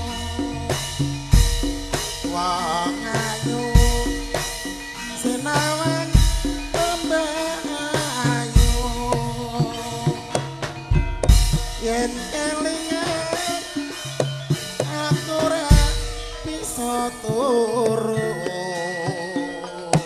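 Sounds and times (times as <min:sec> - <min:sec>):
drums: 0:00.0 - 0:20.0
wavering melody: 0:00.0 - 0:20.0.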